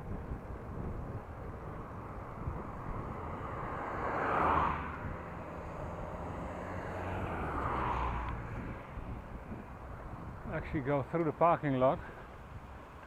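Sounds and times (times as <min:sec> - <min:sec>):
road and wind noise: 0:00.0 - 0:13.0
vehicles passing: 0:00.0 - 0:13.0.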